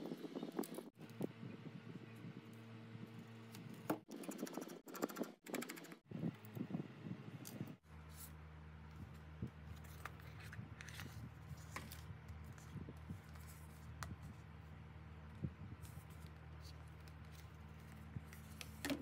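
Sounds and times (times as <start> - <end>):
low electrical hum: 0.3 - 4.0, 6.1 - 19.0.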